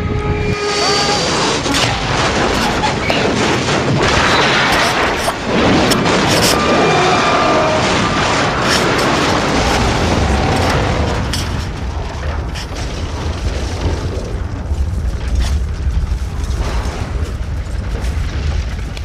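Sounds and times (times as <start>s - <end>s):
deep explosion rumble: 0.0s - 19.0s.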